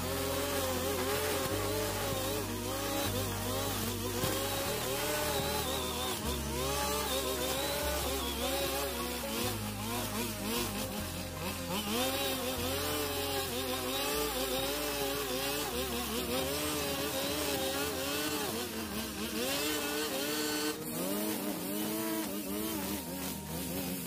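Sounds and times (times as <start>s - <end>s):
background music with bass: 0.0s - 24.0s
brush cutter engine running: 0.0s - 24.0s.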